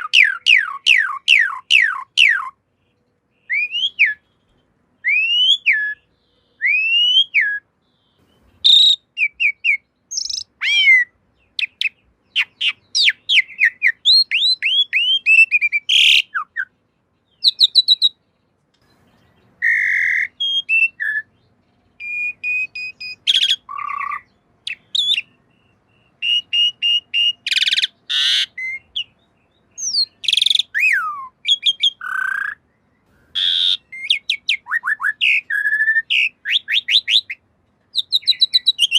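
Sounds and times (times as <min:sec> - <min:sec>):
starling singing: 0:00.0 - 0:02.7, 0:03.3 - 0:18.2, 0:18.8 - 0:38.9.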